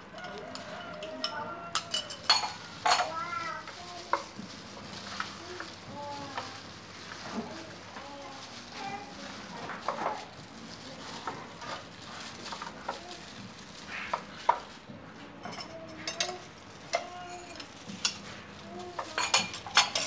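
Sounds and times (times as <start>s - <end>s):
plastic glove crinkling: 2.3s - 20.0s.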